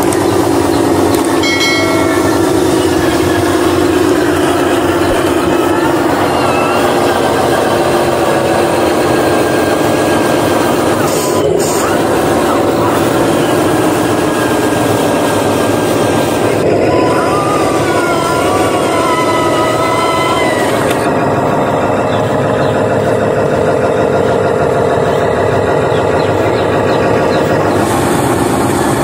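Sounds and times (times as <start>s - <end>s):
diesel truck engine running: 0.0s - 29.0s
wavering whine: 0.0s - 29.0s.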